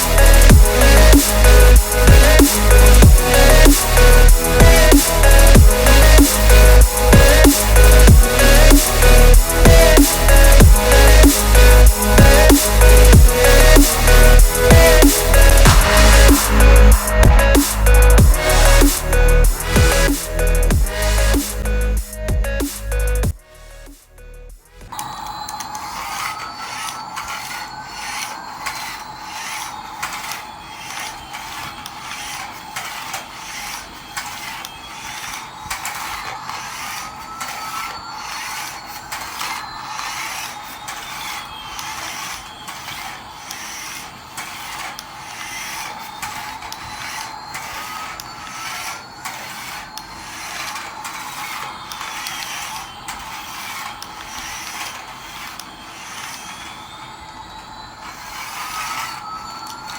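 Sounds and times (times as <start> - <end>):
toy motor clicking: 0.0 - 24.7, 25.5 - 59.9.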